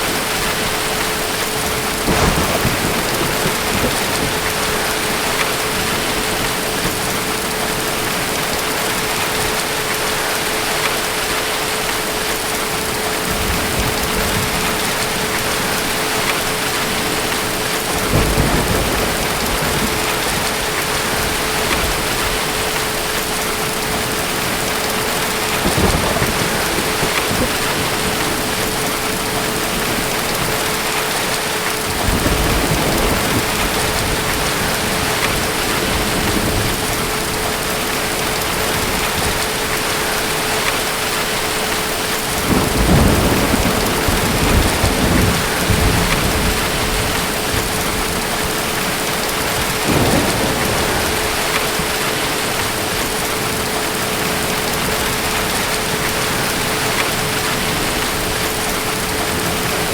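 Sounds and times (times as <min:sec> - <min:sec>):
distant thunder rumbling: 0:00.0 - 0:09.7, 0:12.3 - 0:59.9
heavy rain: 0:00.0 - 0:59.9.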